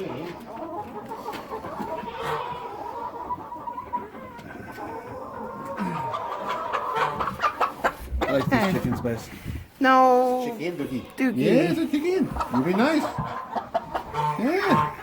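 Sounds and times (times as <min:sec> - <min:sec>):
chicken squawk: 0:00.0 - 0:09.0, 0:10.8 - 0:15.0
chickens clucking: 0:00.0 - 0:15.0.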